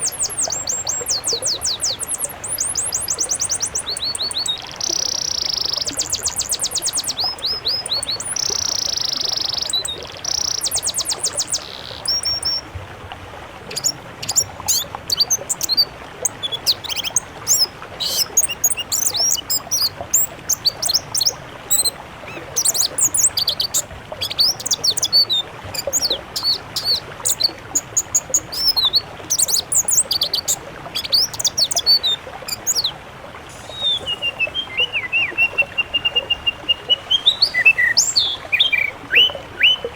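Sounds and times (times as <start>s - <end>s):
songbirds singing: 0.0s - 12.7s, 13.7s - 39.9s.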